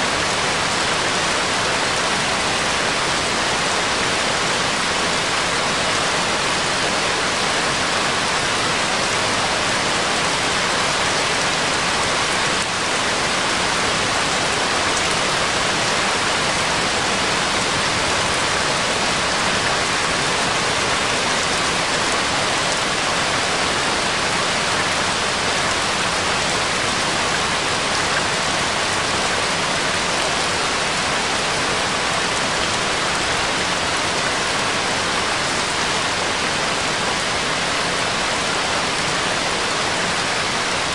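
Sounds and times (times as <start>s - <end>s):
steady rain-like hiss: 0.0s - 40.9s.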